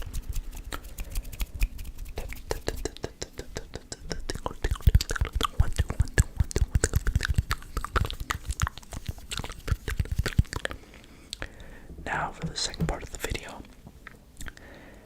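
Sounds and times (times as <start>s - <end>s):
wet mouth clicks and smacks: 0.0s - 11.5s, 12.4s - 14.7s.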